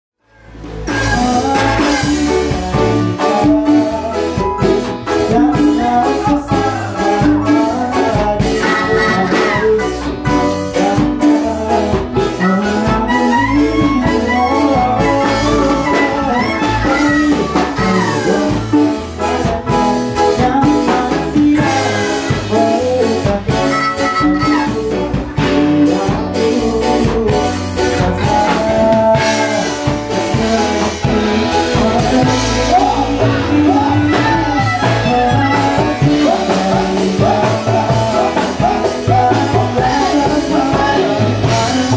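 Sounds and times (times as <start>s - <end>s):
band playing a song: 0.3s - 41.9s
lead singer singing: 0.4s - 41.9s.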